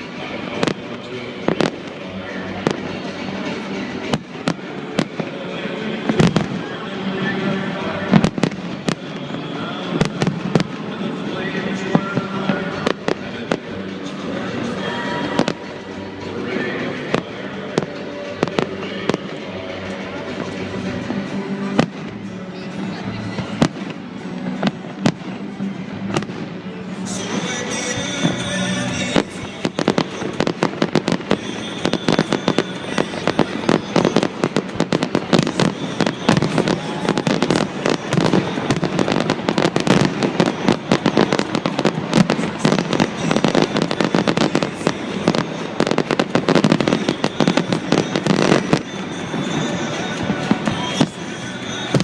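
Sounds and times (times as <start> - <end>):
background music: 0.0 - 52.0
fireworks bangs and crackles: 0.0 - 52.0.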